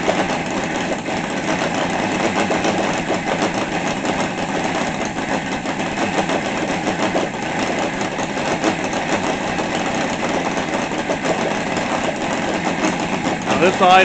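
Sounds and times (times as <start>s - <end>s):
model engine idling: 0.0s - 14.0s.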